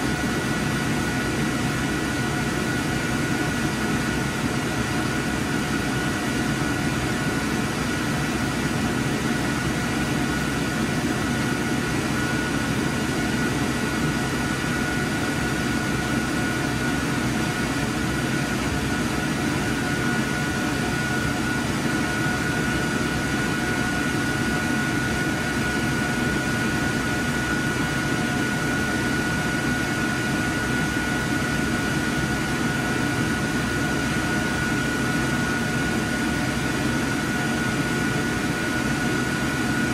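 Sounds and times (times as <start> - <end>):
cooling fans droning: 0.0 - 39.9.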